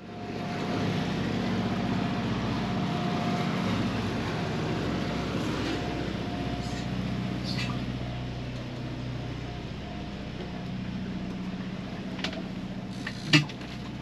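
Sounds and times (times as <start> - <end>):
boat diesel engine droning: 0.0 - 14.0
thin steady whine: 0.0 - 14.0.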